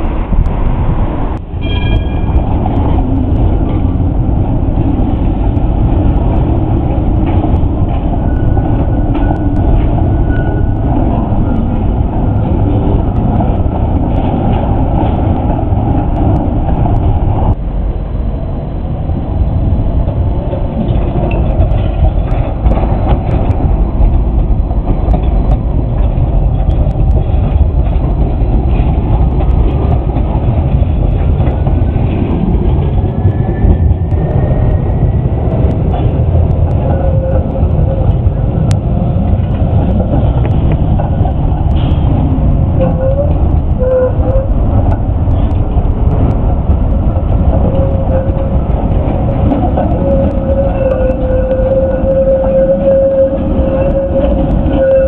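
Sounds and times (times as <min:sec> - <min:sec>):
tram wheels rumbling on rail: 0:00.0 - 0:55.0
wheels clicking over rail joints: 0:01.4 - 0:17.6, 0:20.0 - 0:55.0.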